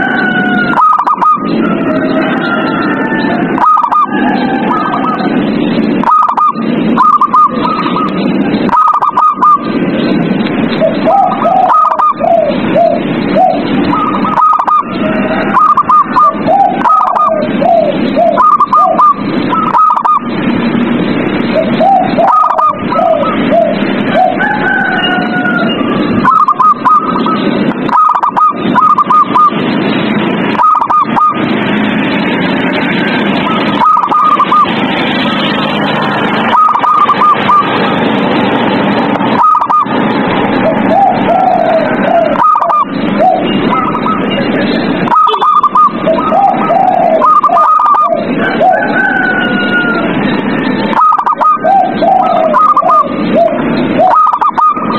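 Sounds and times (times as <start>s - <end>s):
doves cooing: 0.0s - 38.2s, 39.0s - 54.9s.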